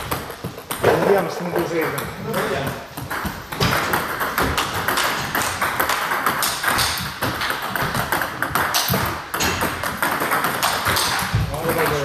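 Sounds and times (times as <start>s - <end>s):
table tennis balls clicking: 0.0s - 12.0s.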